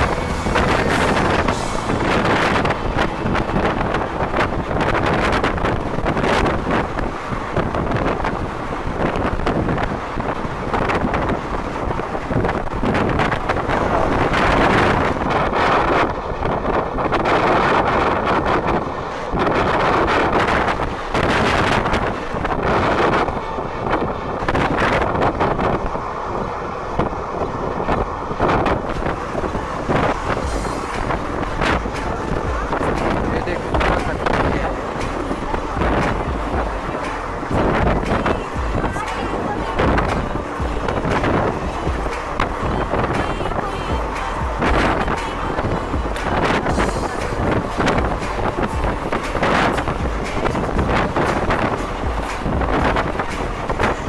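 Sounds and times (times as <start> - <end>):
train running on track: 0.0 - 54.0
wind buffeting microphone: 0.0 - 54.0.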